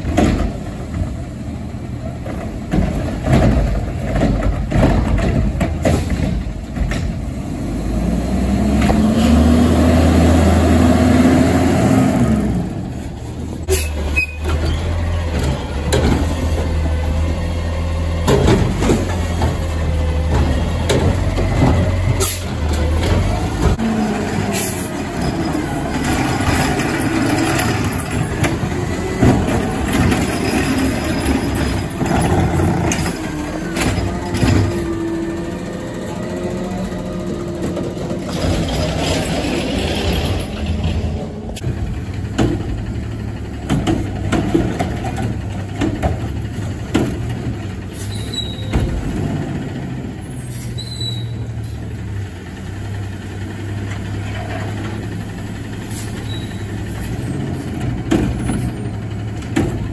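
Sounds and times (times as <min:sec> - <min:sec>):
carts clanking and knocking: 0:00.0 - 0:07.5, 0:12.8 - 0:59.9
garbage truck engine revving: 0:00.0 - 0:59.9.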